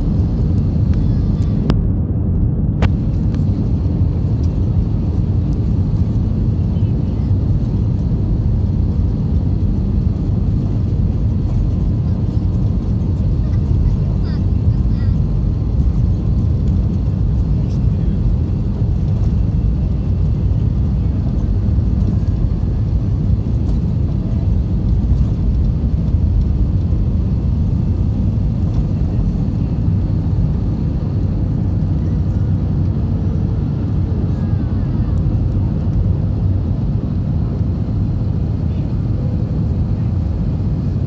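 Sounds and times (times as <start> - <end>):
jet engines rumbling in cabin: 0.0 - 41.0.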